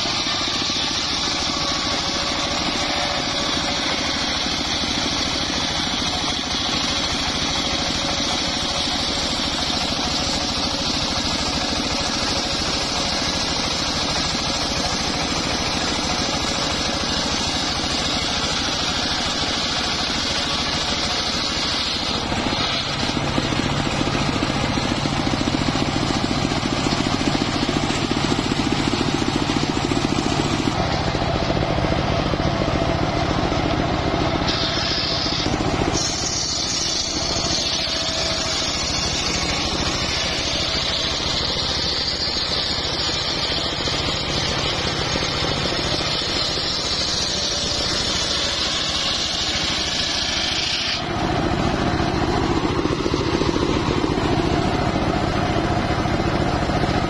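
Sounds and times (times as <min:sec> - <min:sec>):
loud high cutting hiss: 0:00.0 - 0:31.6, 0:34.3 - 0:52.7
saw blade ripping log: 0:00.0 - 0:31.7, 0:32.5 - 0:55.8
engine running steadily: 0:00.0 - 0:57.0.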